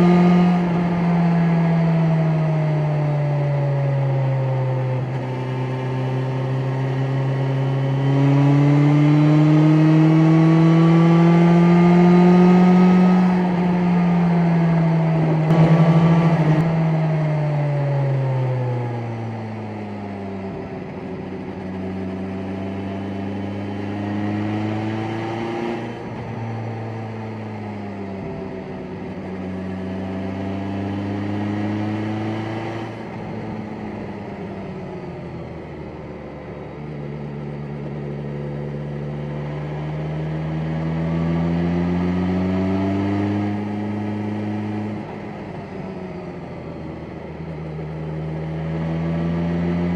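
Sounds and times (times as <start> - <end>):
motorcycle engine: 0.0 - 49.9
wind and road noise: 0.0 - 49.9.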